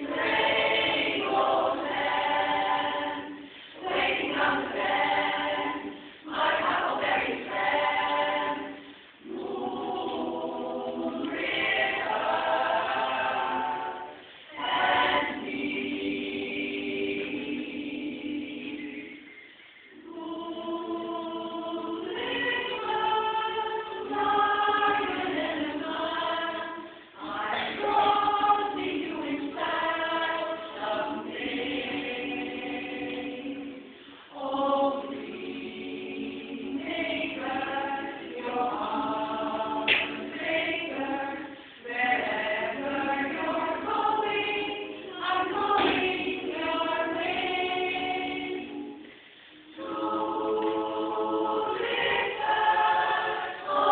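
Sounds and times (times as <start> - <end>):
women's chorus singing a cappella: 0.0 - 53.9.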